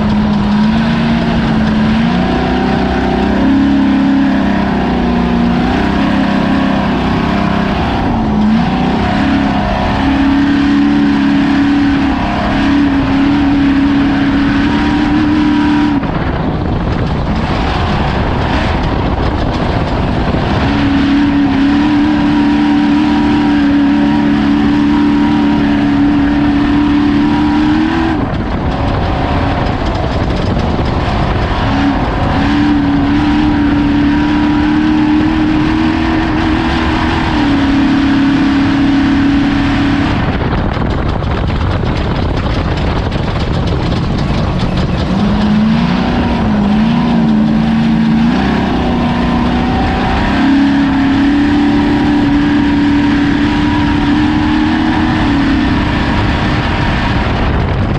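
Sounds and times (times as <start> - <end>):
engine running at high revs: 0.0 - 57.9
rushing rattling noise: 0.0 - 57.9.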